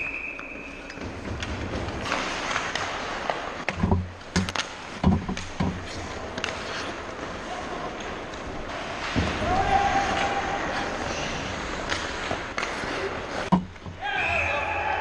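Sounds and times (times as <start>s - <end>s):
hockey stick clacks: 0.0s - 14.0s
skates scraping ice: 0.0s - 15.0s.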